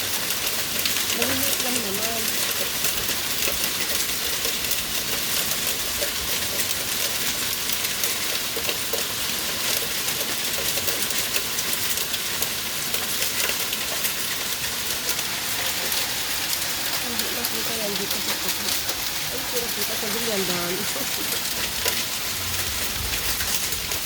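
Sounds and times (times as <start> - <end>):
hail pelting down: 0.0 - 24.0.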